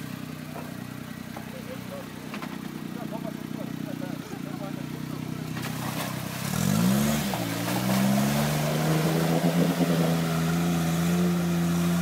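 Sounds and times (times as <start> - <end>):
engine revving under load: 2.1 - 12.0.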